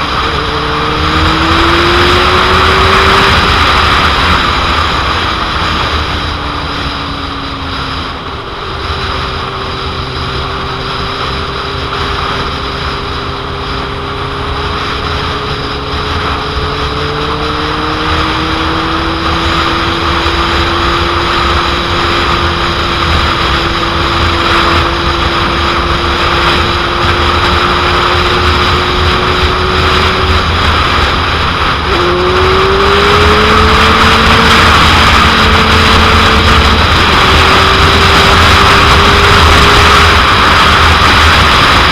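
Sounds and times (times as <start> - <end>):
motorcycle engine: 0.0 - 41.9
wind noise on microphone: 0.0 - 41.9.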